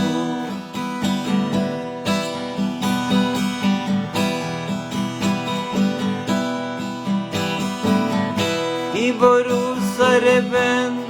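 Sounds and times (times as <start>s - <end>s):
acoustic guitar pattern: 0.0s - 11.0s.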